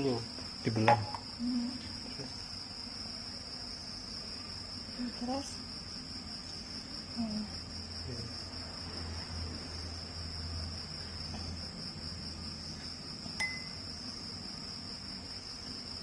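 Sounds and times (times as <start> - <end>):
high-pitched insect trilling: 0.0 - 16.0.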